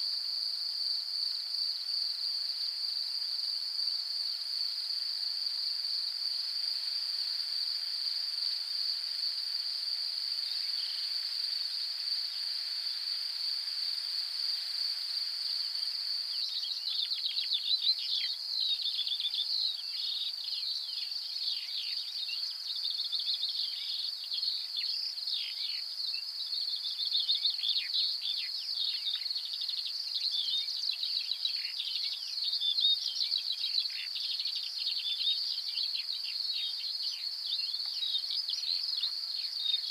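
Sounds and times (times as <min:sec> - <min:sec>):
high-pitched insect drone: 0:00.1 - 0:39.9.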